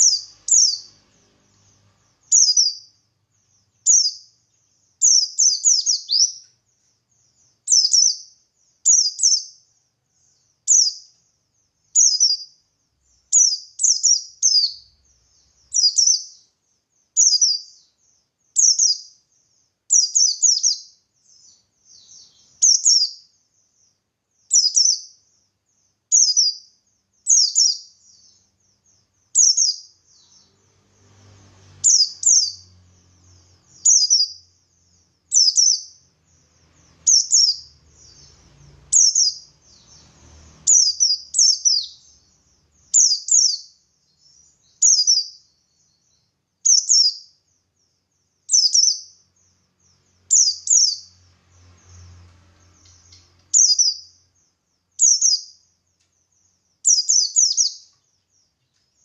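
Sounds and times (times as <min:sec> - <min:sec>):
bird high chirping calls: 0:00.0 - 0:59.0.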